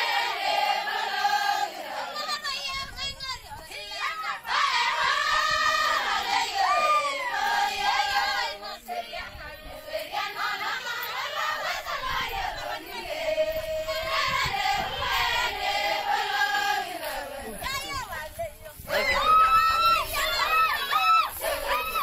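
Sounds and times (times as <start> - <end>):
women singing in chorus: 0.0 - 22.0.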